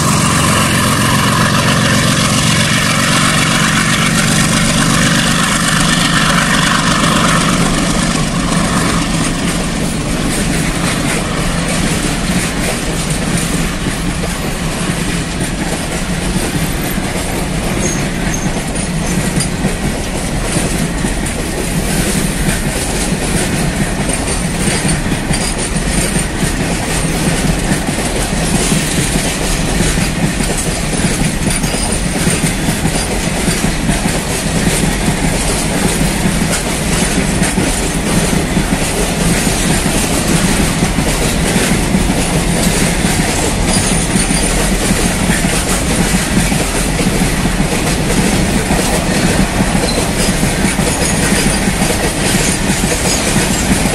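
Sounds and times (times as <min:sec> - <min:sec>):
freight train rumbling: 0:00.0 - 0:53.9
wheels clattering over rail joints: 0:00.0 - 0:53.9.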